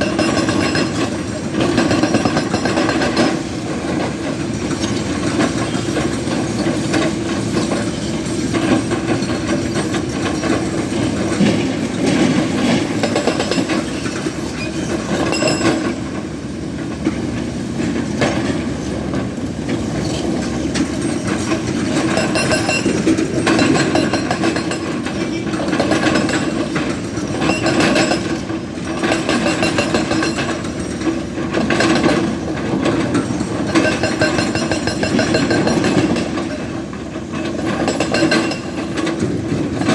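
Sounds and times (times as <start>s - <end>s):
hydraulic breaker hammering rock: 0.0s - 16.2s, 19.7s - 39.9s
excavator engine running: 0.0s - 39.9s.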